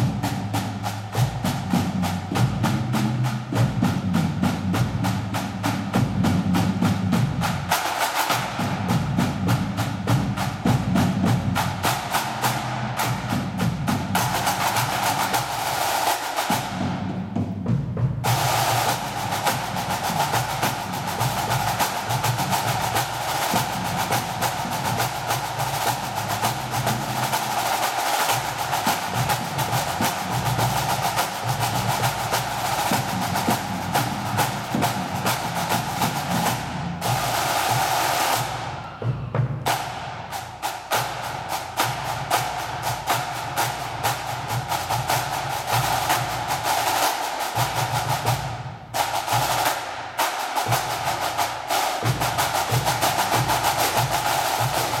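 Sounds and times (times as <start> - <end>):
snare drum rolls: 0.0 - 55.0
tenor and bass drums: 0.0 - 55.0.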